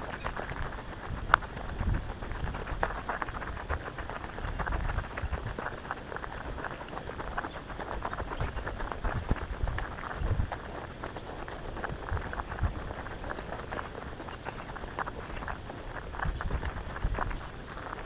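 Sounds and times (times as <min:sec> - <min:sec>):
footsteps crunching on dry track: 0:00.0 - 0:18.0.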